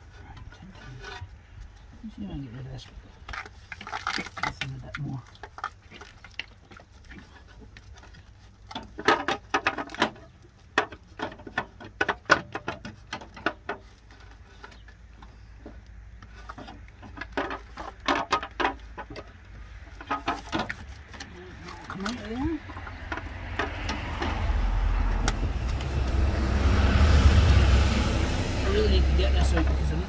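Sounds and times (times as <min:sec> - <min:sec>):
hands clicking and rattling engine parts: 0:00.0 - 0:27.9, 0:28.6 - 0:30.0.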